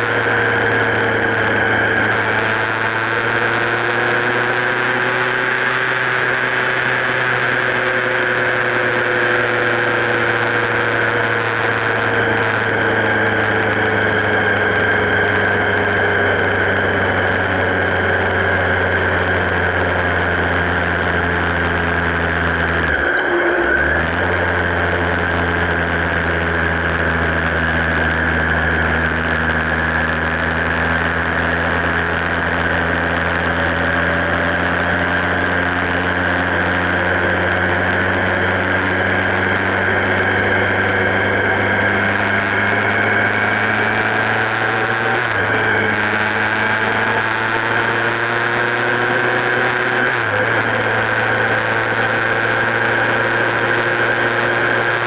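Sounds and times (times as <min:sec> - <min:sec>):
motorcycle engine running: 0:00.0 - 0:55.0
steady high whine: 0:00.0 - 0:55.0.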